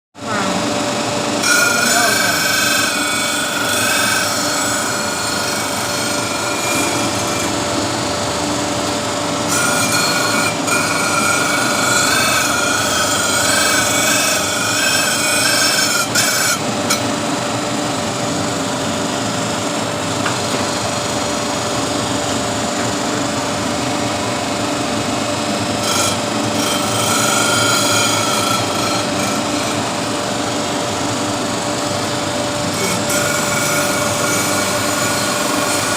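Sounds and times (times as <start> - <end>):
grinding wheel rasping: 0.3 - 35.9.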